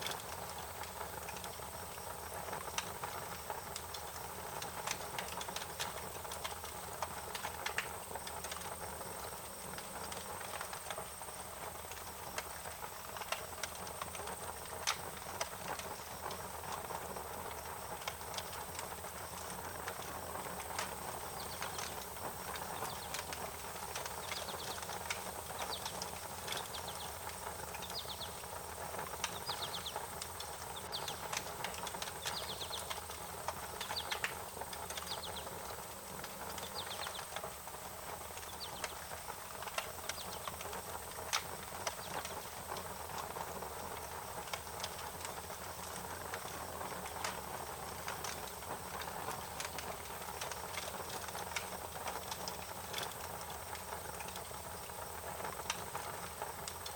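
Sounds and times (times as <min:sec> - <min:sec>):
wood fire crackling and popping: 0:00.0 - 0:56.9.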